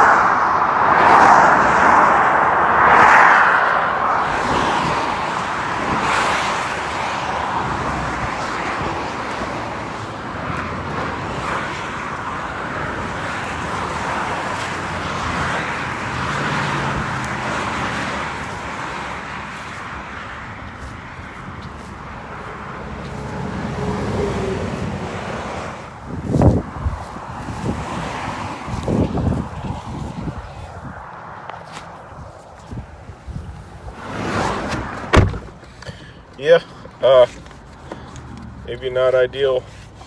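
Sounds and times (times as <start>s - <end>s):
highway traffic rushing past: 0.0s - 40.0s.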